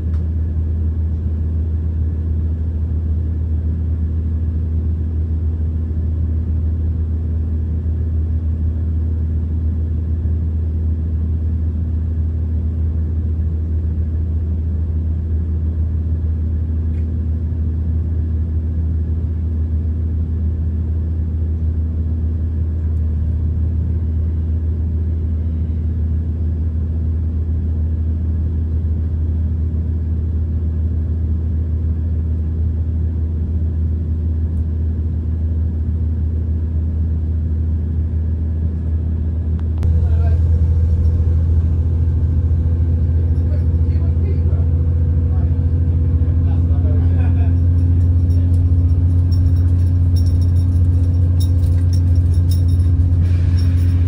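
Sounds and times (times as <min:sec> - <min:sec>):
diesel train running: 0:00.0 - 0:29.9, 0:33.3 - 0:54.0.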